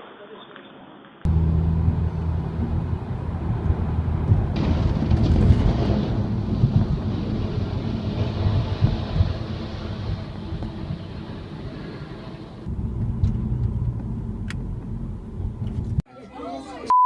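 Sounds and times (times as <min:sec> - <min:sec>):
vehicle engine rumbling: 0:01.3 - 0:16.0.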